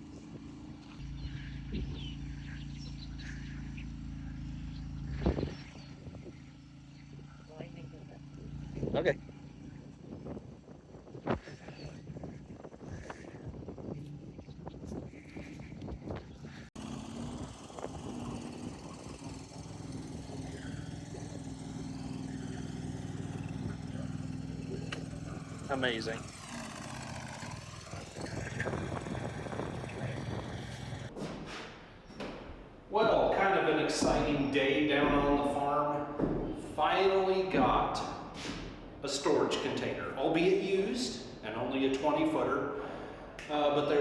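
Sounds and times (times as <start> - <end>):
truck engine running: 0.0 - 12.8, 15.1 - 44.0.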